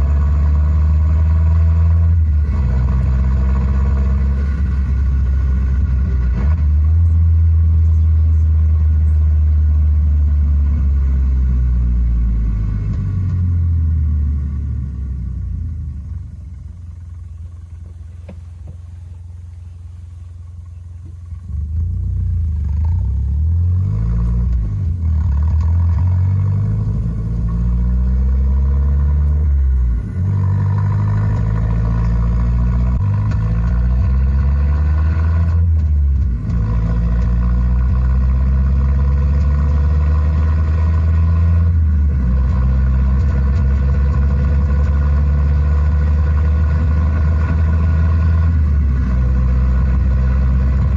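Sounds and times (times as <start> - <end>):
engine sound through car speakers: 0.0 - 50.9.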